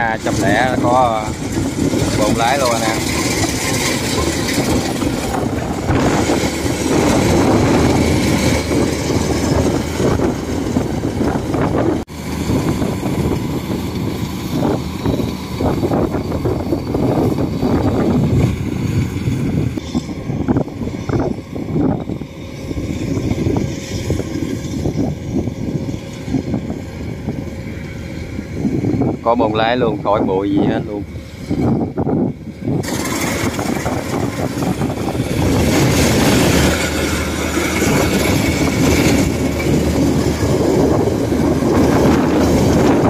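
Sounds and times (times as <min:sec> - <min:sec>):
combine harvester running: 0:00.0 - 0:43.0.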